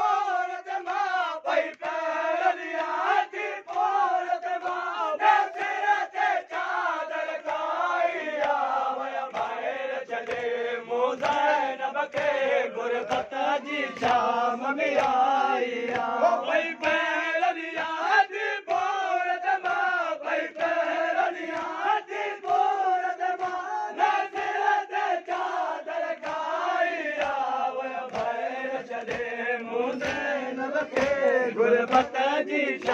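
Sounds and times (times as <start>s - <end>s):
hands slapping chests: 0.0s - 32.9s
men chanting in unison: 0.0s - 32.9s.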